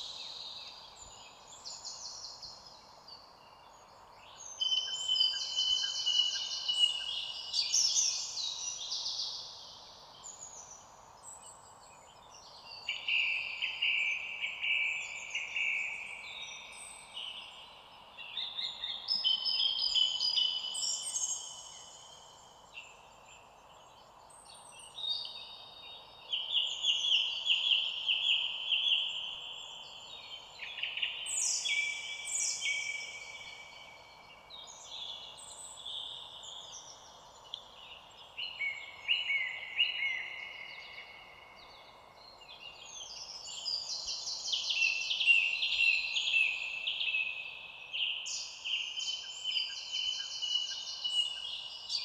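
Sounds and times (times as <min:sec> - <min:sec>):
songbirds singing: 0:00.0 - 0:52.0
steady faint hiss: 0:00.0 - 0:52.0.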